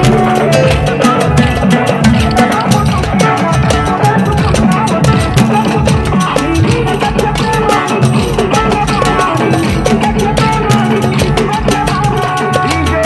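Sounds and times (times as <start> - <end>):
upbeat music with drum beat: 0.0 - 13.0.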